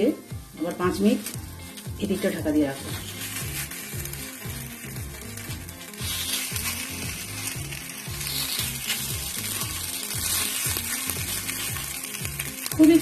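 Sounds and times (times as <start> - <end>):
batter sizzling in oil: 0.0 - 13.0
background music with bass beat: 0.1 - 13.0.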